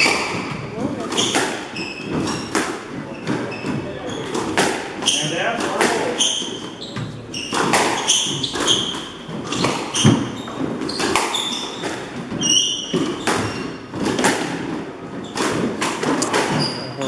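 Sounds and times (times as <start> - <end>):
squash ball cracking off rackets: 0.0 - 16.8
shoes squeaking on wooden floor: 0.0 - 17.0.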